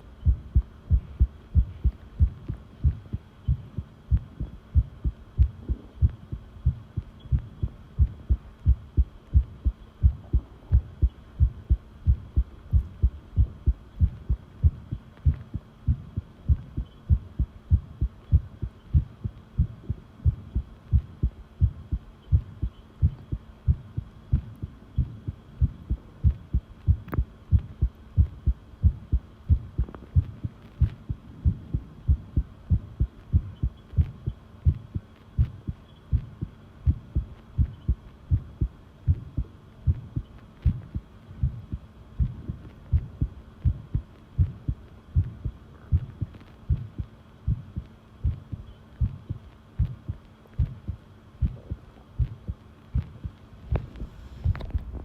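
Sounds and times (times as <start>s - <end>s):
heartbeat thuds: 0.0s - 55.0s.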